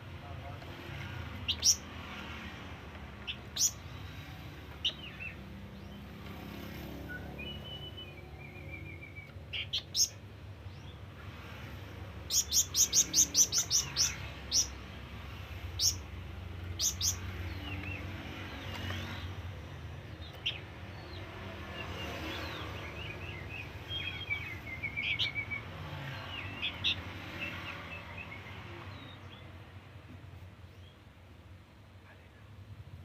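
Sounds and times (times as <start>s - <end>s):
songbird chirping and trilling: 0.3s - 29.8s.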